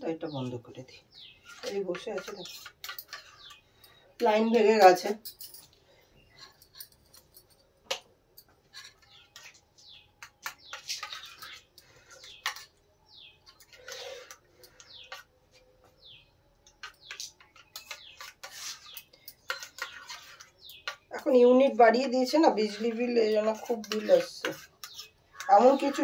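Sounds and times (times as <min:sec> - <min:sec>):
small bird chirping: 0:00.1 - 0:04.6, 0:08.7 - 0:26.0.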